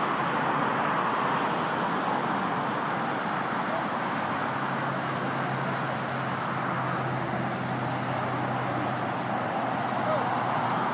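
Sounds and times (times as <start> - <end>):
floodwater rushing: 0.0 - 10.9
road traffic: 0.0 - 10.9.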